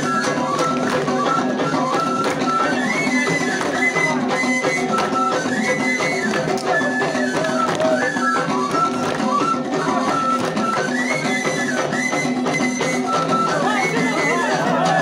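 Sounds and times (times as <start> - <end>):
folk melody with gliding notes: 0.0 - 15.0
frame drums beating: 0.0 - 15.0.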